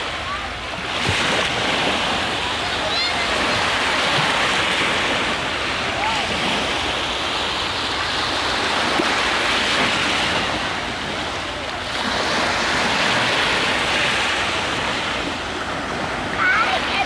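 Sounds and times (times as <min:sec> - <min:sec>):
sea waves breaking on sand: 0:00.0 - 0:17.0.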